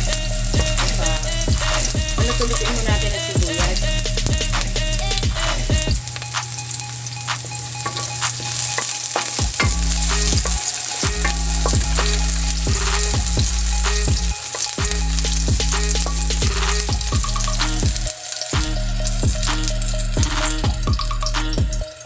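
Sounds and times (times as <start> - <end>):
onions sizzling in hot oil: 0.0 - 5.4, 6.0 - 22.0.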